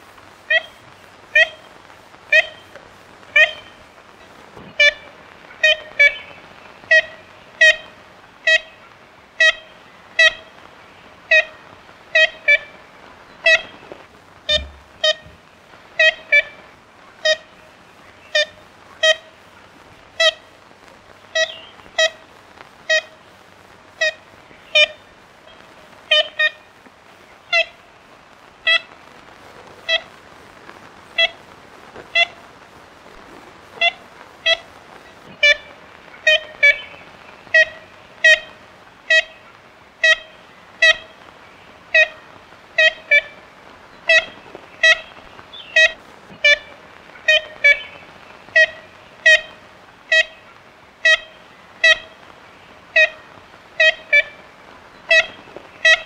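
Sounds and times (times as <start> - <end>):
steady hiss: 0.0 - 56.0
woodpecker nasal calls: 0.4 - 23.3, 23.9 - 28.0, 31.1 - 31.4, 32.0 - 32.4, 33.8 - 56.0.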